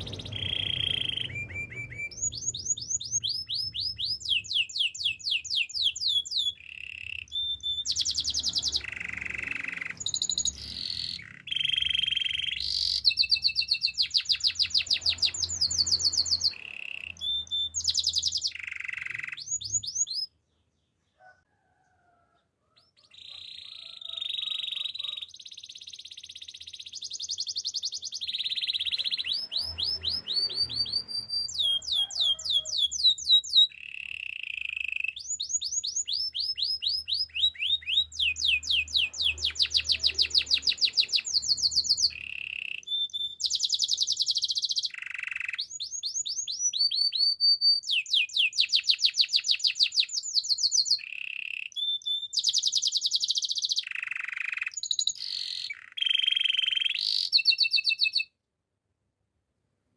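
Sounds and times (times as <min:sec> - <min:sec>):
canary singing: 0:00.0 - 0:21.9, 0:22.6 - 0:58.4.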